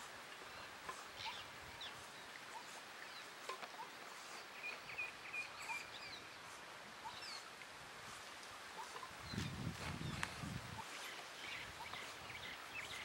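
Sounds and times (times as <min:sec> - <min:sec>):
birds chirping: 0:00.0 - 0:07.6, 0:08.7 - 0:13.0.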